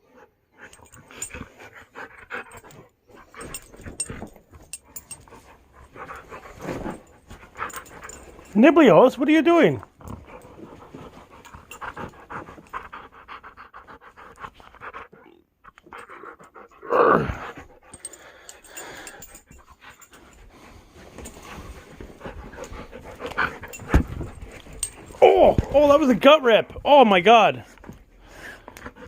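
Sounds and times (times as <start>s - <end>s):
dog panting: 0.0s - 8.7s, 9.7s - 25.8s, 27.7s - 29.0s.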